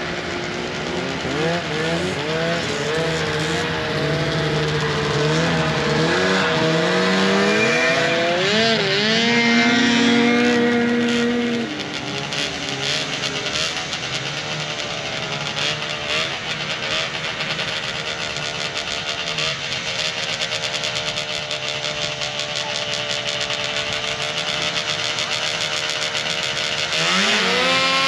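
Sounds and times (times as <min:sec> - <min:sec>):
snowmobile engines revving: 0:00.0 - 0:28.0.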